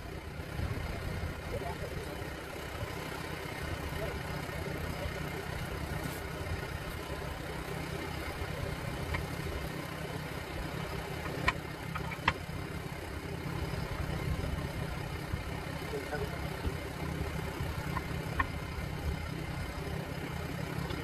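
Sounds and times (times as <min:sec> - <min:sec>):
tire irons clinking on rim: 0:00.1 - 0:21.0.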